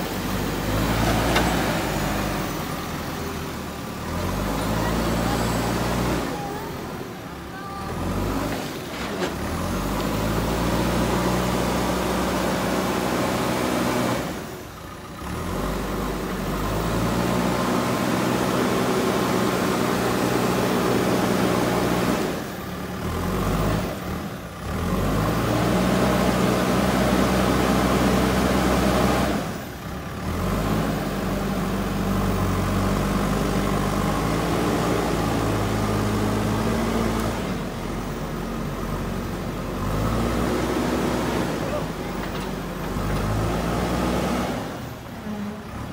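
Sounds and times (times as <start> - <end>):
backhoe diesel engine under load: 0.0 - 45.9.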